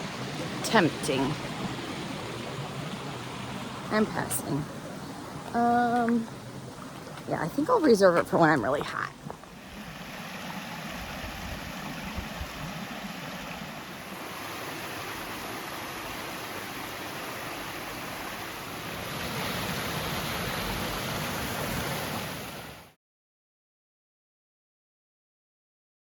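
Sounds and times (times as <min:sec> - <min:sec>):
water rushing over rocks: 0:00.0 - 0:22.9.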